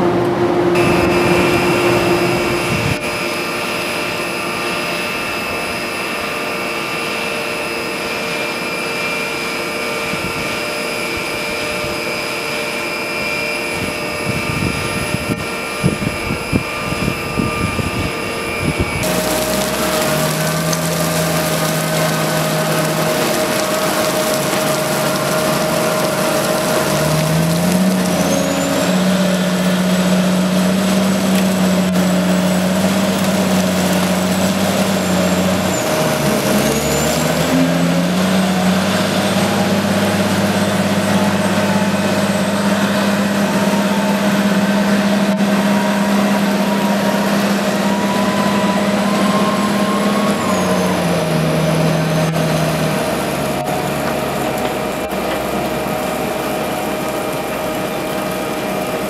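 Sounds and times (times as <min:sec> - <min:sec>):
diesel engine running hard: 0:00.0 - 0:59.0
high whine: 0:00.0 - 0:59.0.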